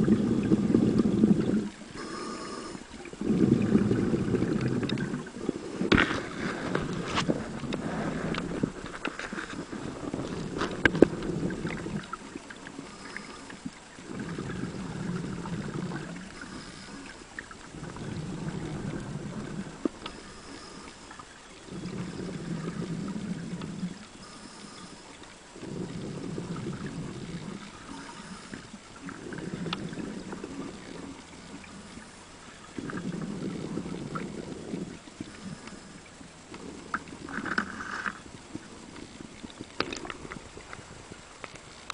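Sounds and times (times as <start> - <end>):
diver inhaling through regulator: 0.0 - 38.2
diver exhaling bubbles underwater: 0.0 - 41.2.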